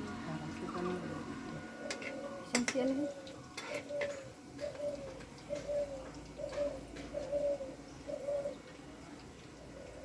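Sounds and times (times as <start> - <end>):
dove cooing: 0.8 - 8.7, 9.6 - 10.0.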